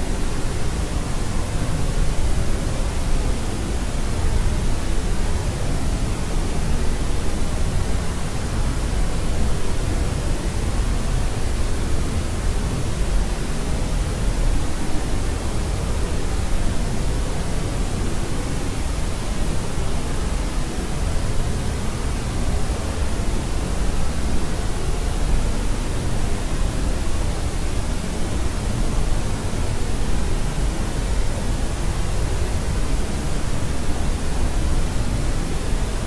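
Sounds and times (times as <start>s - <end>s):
pink noise hiss: 0.0s - 36.0s.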